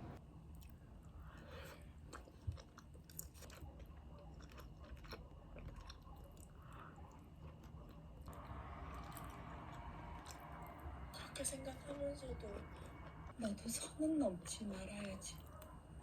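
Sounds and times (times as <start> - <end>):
faint chewing with crunches: 0.1 - 16.0.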